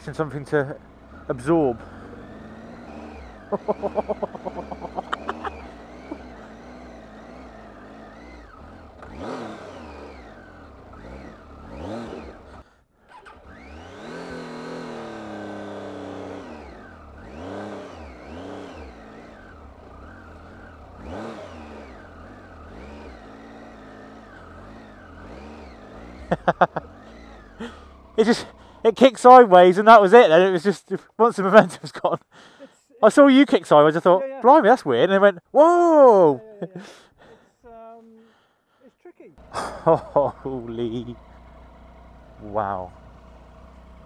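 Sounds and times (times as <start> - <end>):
motorcycle engine revving: 0.0 - 37.5, 39.4 - 44.0.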